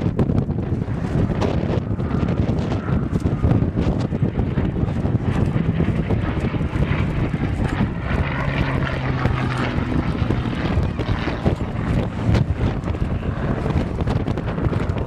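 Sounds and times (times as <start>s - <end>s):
propeller aircraft droning overhead: 0.0s - 15.0s
wind noise on microphone: 0.0s - 15.0s.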